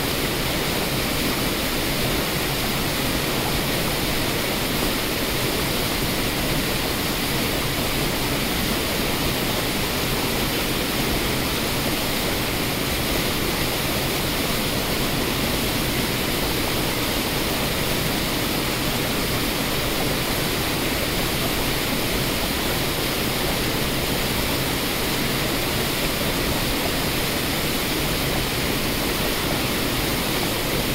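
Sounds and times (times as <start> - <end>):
waterfall rushing over rocks: 0.0 - 30.9.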